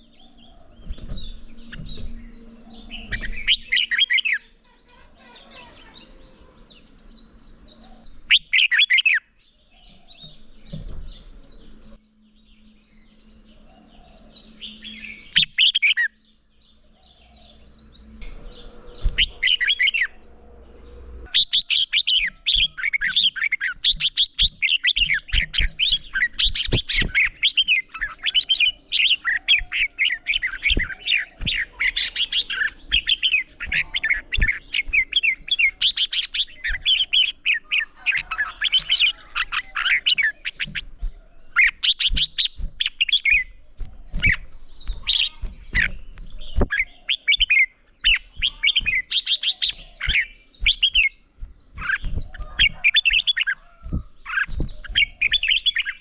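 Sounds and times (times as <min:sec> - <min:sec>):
birds singing warbled phrases: 0:00.0 - 0:56.0.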